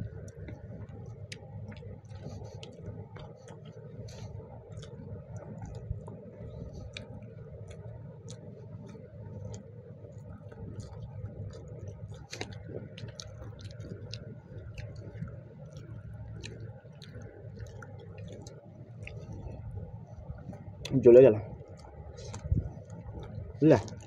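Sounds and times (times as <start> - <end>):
chewing: 0.0 - 24.0
fingers squishing rice: 0.0 - 24.0.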